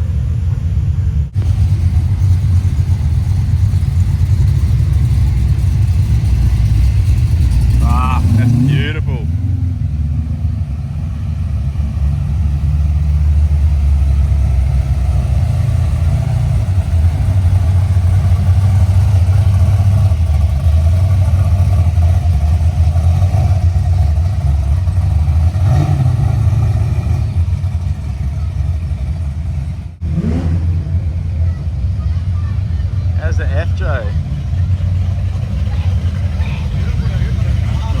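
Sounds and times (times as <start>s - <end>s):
car exhaust rumble and revving: 0.0s - 38.0s.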